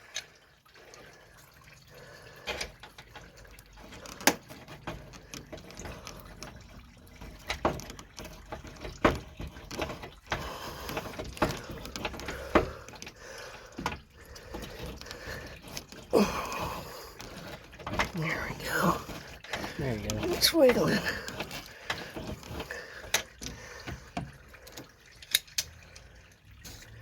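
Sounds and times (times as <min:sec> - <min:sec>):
liquid dripping and trickling: 0:00.0 - 0:27.0
sharp clicks and knocks of hand tools: 0:02.5 - 0:25.8.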